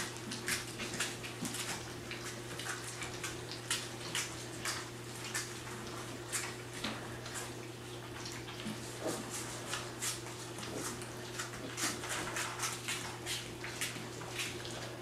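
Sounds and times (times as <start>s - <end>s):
puppies lapping and slurping: 0.0s - 15.0s.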